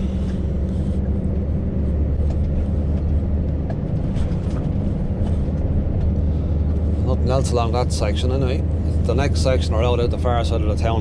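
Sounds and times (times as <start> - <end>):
road noise: 0.0 - 11.0
truck engine drone: 0.0 - 11.0.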